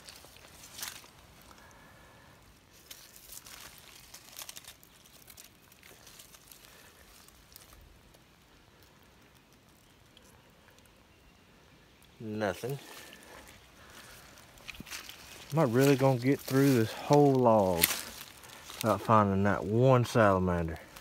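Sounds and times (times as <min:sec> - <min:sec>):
dry leaves crackling: 0:00.0 - 0:21.0.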